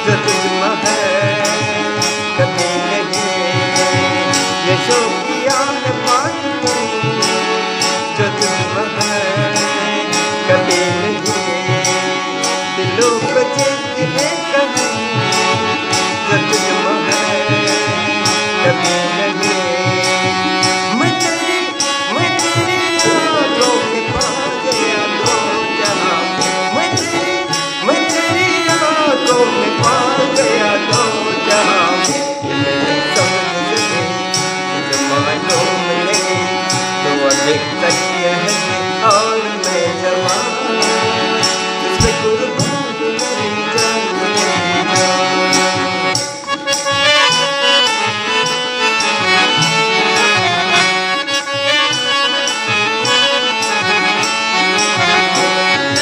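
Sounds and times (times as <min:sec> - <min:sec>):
harmonium: 0:00.0 - 0:56.0
high beat tick: 0:00.0 - 0:56.0.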